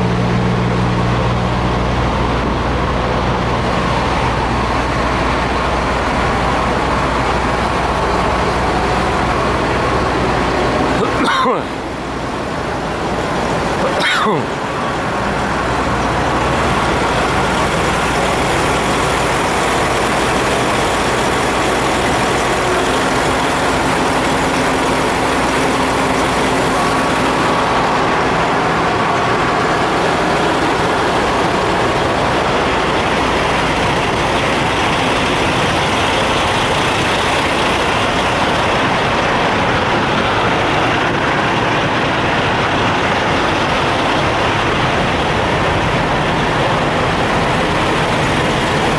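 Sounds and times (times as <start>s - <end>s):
diesel trucks idling: 0.0s - 48.9s.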